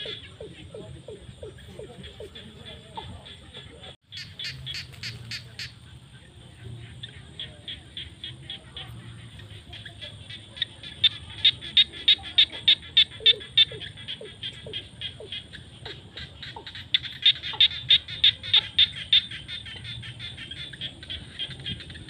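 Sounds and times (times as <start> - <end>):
frogs high clicking calls: 0.0 - 5.8, 7.1 - 22.0
faint frog chorus: 0.0 - 22.0.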